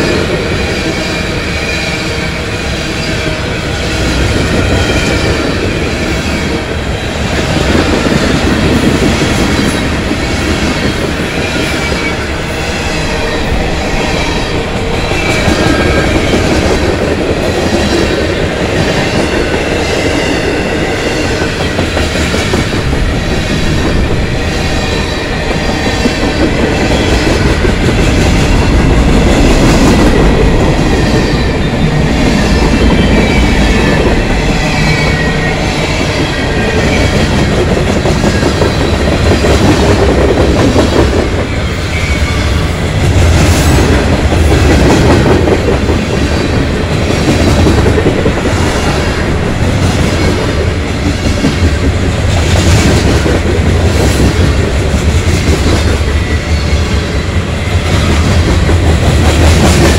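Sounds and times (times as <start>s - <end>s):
train wheels rumbling on rails: 0.0s - 59.9s
clickety-clack over rail joints: 3.9s - 12.4s, 13.9s - 59.9s.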